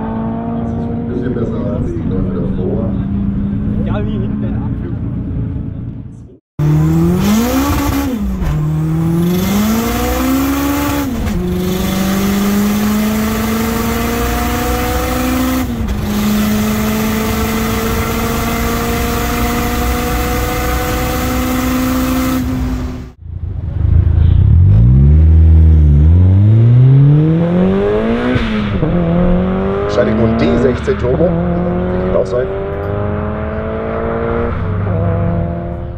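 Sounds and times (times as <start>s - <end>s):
car engine revving: 0.0s - 6.0s, 6.6s - 35.9s
car engine at full throttle: 0.0s - 35.9s.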